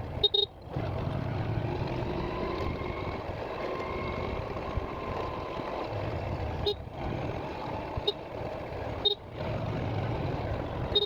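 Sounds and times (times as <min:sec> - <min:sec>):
vehicle and road noise: 0:00.0 - 0:11.0.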